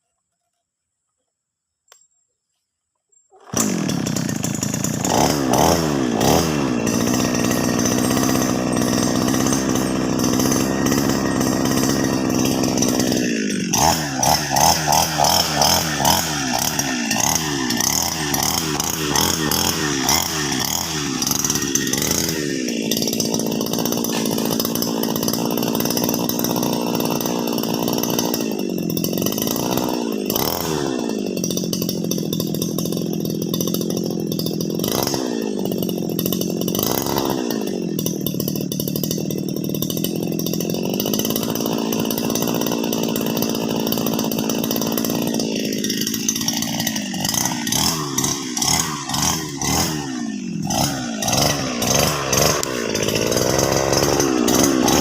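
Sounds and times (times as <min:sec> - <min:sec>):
brush cutter engine running: 0:03.3 - 0:55.0.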